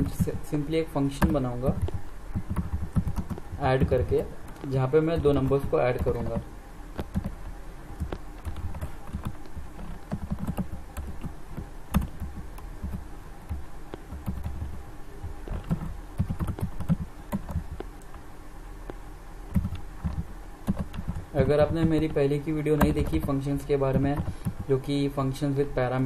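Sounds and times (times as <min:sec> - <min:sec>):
computer keyboard typing: 0:01.0 - 0:18.2, 0:18.9 - 0:25.0.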